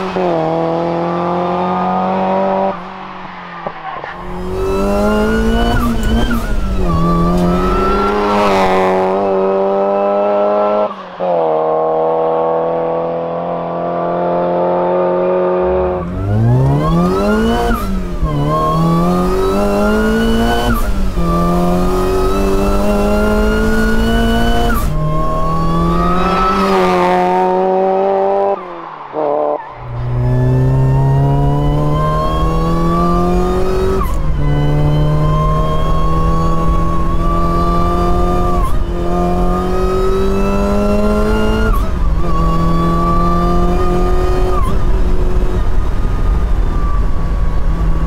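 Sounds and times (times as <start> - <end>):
car engine revving through gears: 0.0 - 48.0.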